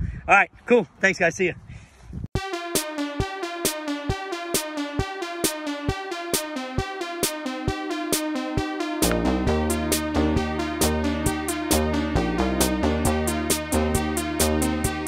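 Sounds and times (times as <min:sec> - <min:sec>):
deep bass line: 0:02.4 - 0:15.0
drum machine beat: 0:02.4 - 0:15.0
held synthesizer notes: 0:02.4 - 0:15.0.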